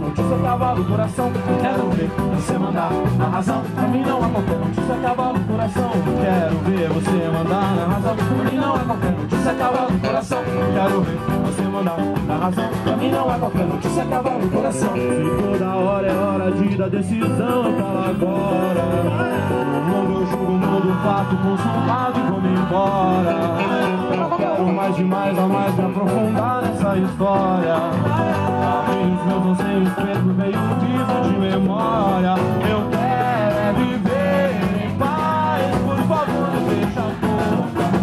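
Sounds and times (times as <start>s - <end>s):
guitars strumming: 0.0s - 38.0s
hand drum: 0.0s - 38.0s
man singing: 0.0s - 38.0s.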